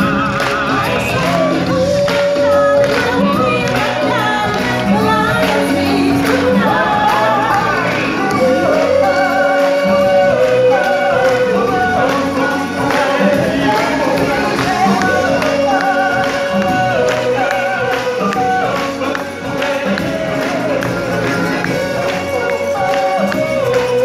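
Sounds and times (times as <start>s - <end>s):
stage show music with singing: 0.0s - 24.0s.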